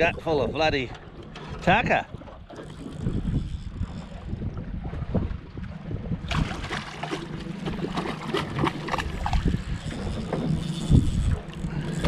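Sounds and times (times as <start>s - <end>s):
waves slapping against boat hull: 0.0s - 12.0s.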